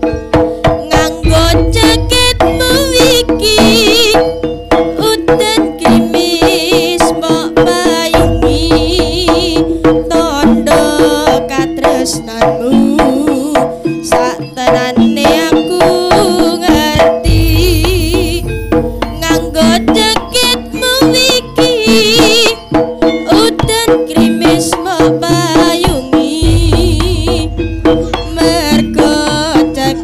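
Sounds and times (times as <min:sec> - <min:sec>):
hand drums beating fast rhythm: 0:00.0 - 0:30.0
wavering melodic lead: 0:00.0 - 0:30.0.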